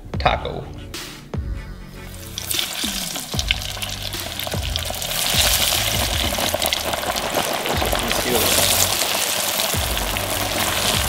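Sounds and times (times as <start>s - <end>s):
background music: 0.0s - 11.0s
oil sizzling and bubbling: 2.0s - 11.0s.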